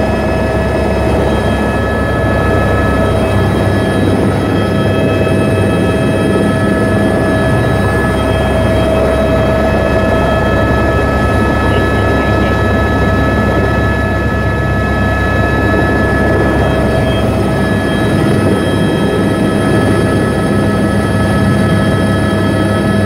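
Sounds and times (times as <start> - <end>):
helicopter turbine and rotor noise: 0.0 - 23.0.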